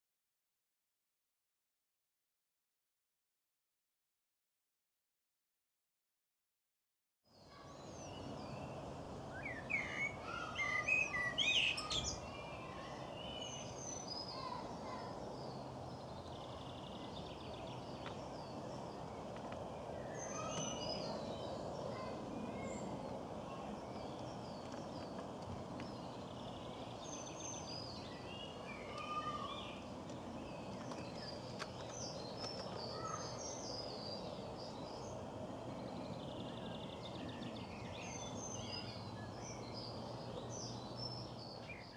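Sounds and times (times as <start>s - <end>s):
birds singing and chirping: 7.4s - 41.9s
steady background noise: 7.5s - 41.9s.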